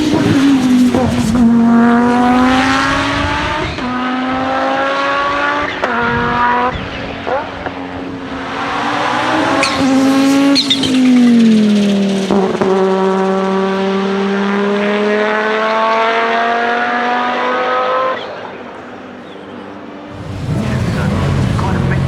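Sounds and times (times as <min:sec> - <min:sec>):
race car engine accelerating: 0:00.0 - 0:18.8, 0:20.1 - 0:22.0.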